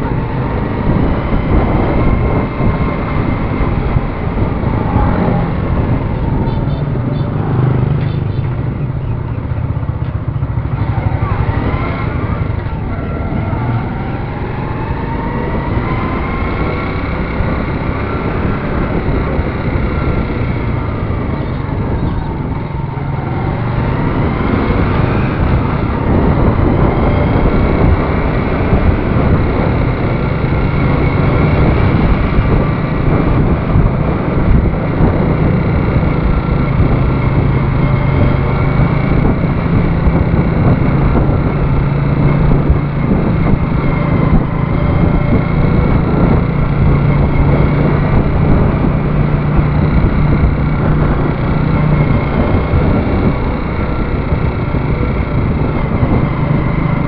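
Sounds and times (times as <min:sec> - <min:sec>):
motorcycle engine running: 0:00.0 - 0:57.0
wind rush over microphone: 0:00.0 - 0:57.0.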